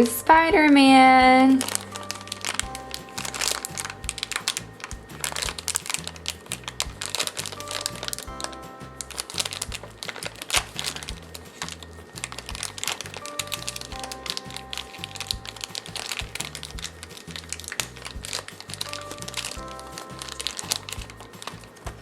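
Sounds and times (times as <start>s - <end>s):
background music with bass line: 0.0s - 22.0s.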